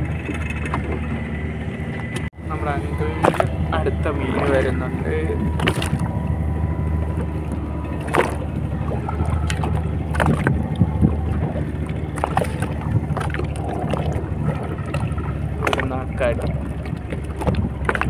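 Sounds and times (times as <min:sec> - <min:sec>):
boat engine running at low revs: 0:00.0 - 0:18.0
water moving along hull: 0:00.0 - 0:18.0
wind on microphone: 0:00.0 - 0:18.0.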